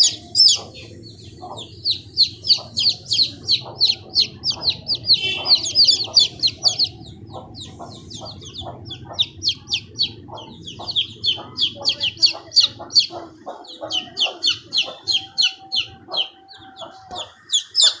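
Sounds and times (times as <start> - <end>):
baby chicks peeping: 0.0 - 18.0.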